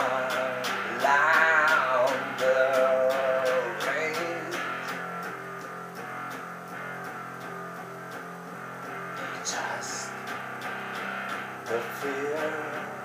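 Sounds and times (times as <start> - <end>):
electric guitar strumming: 0.0 - 13.0.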